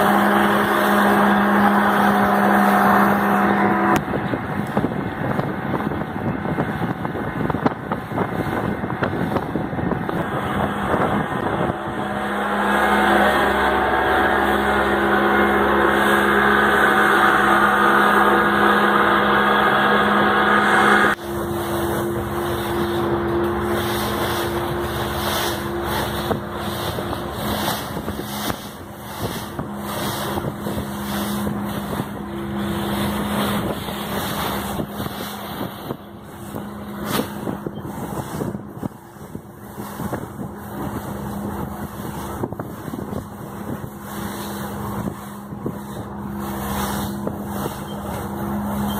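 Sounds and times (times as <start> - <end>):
fluttering water wash: 0.0 - 48.9
motorboat engine running: 0.0 - 48.9
water and wind rushing: 0.0 - 48.9.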